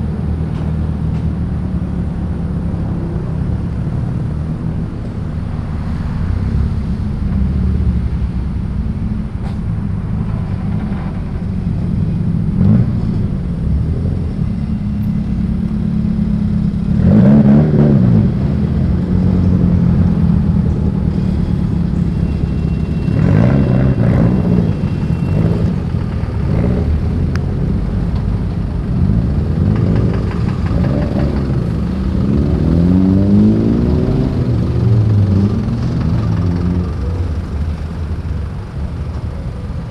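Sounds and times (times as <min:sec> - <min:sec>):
cars driving past: 0:00.0 - 0:39.9
cars revving: 0:00.0 - 0:39.9
low engine drone: 0:00.0 - 0:39.9.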